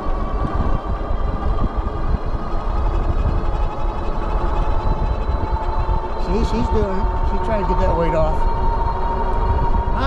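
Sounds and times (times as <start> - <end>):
e-bike motor whine: 0.0 - 10.0
wind buffeting microphone: 0.0 - 10.0.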